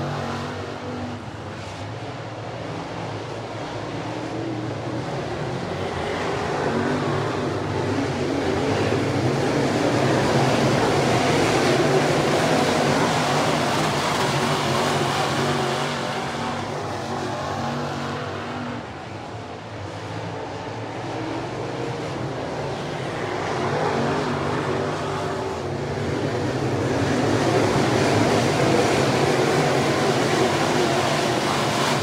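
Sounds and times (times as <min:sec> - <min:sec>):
race car engines at speed: 0:00.0 - 0:32.0.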